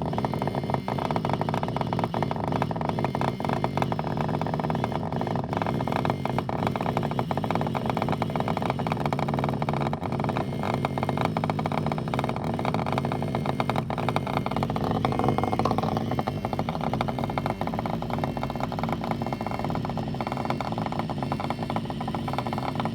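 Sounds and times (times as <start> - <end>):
vibrator buzzing: 0.0 - 22.9.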